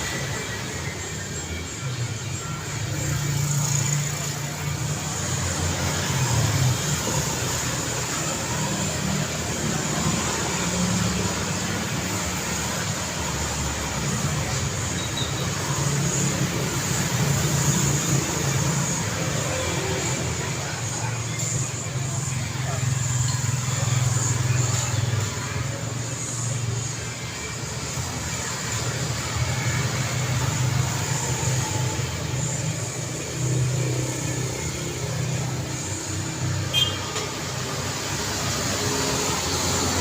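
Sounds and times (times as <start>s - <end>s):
cars passing: 0.0s - 40.0s.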